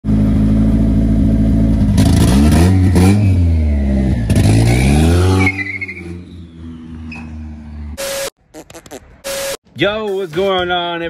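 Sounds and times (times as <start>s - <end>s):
car engine idling and revving: 0.0s - 9.4s.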